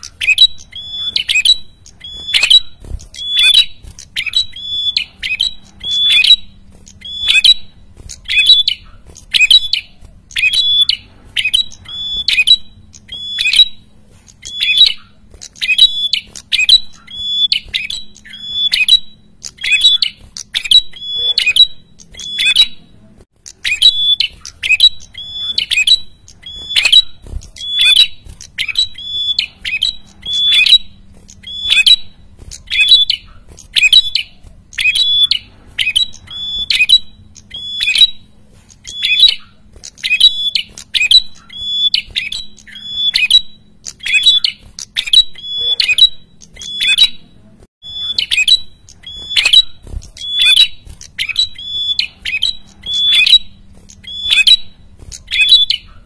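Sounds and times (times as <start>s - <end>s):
bird chattering: 0.0s - 56.0s.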